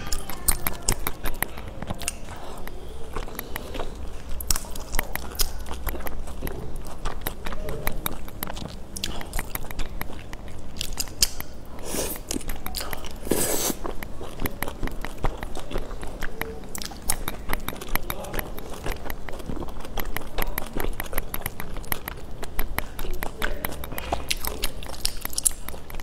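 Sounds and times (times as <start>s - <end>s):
person chewing noodles: 0.0s - 26.0s.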